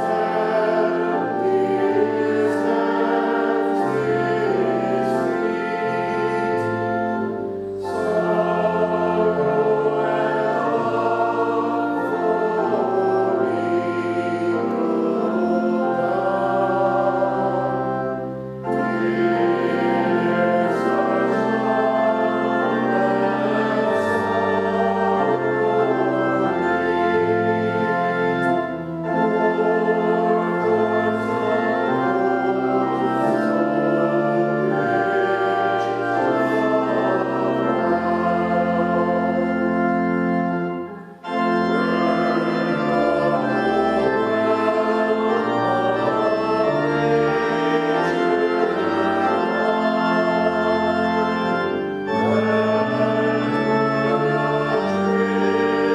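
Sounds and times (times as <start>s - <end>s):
church organ playing a hymn: 0.0s - 55.9s.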